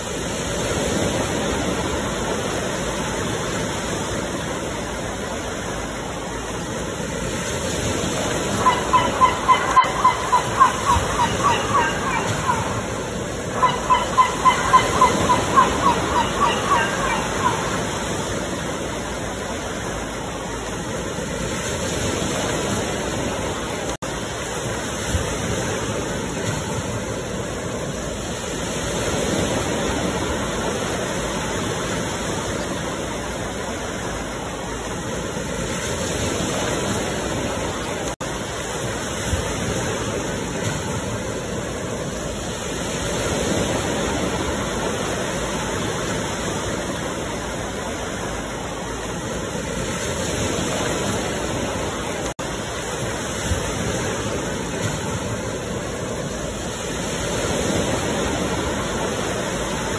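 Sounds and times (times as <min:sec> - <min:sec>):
ocean surf washing on shore: 0:00.0 - 0:59.9.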